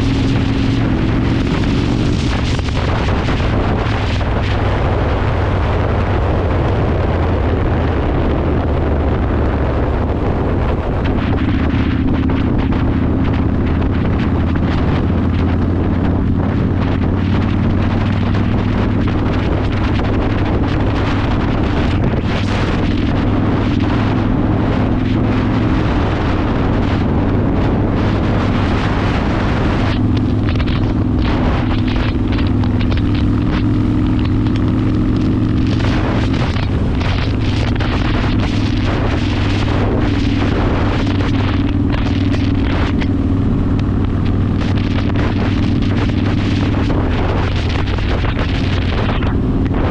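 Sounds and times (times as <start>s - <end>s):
motorcycle engine running loud: 0.0s - 49.9s
wind buffeting microphone: 0.0s - 49.9s.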